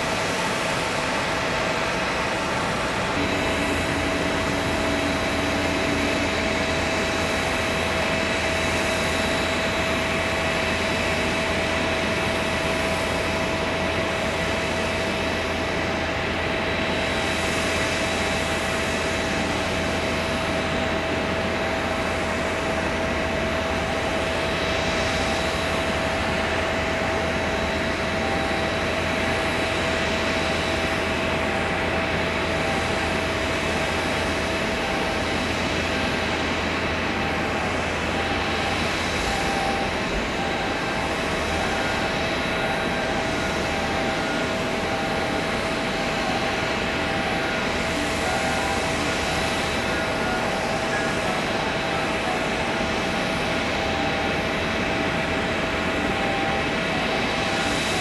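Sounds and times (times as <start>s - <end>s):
jet engine whine: 0.0s - 58.0s.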